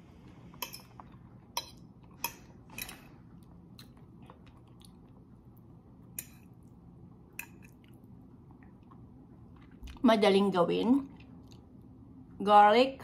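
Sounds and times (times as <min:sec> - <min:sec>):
soft chewing: 0:00.2 - 0:10.0, 0:11.0 - 0:12.0.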